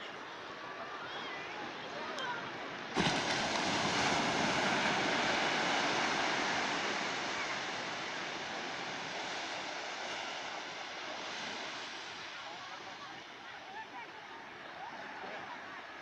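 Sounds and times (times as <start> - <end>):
ocean surf on a beach: 0.0 - 16.0.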